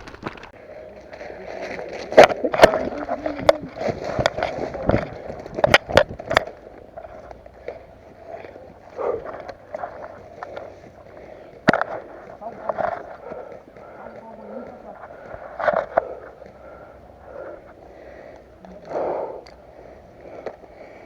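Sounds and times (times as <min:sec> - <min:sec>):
steady rustling noise: 0:00.0 - 0:21.0.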